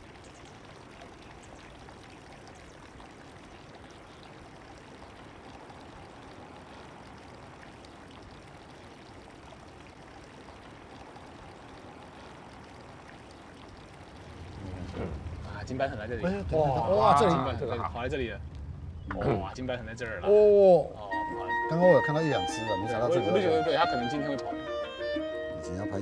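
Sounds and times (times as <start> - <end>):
rushing noise of flowing water: 0.0 - 26.0.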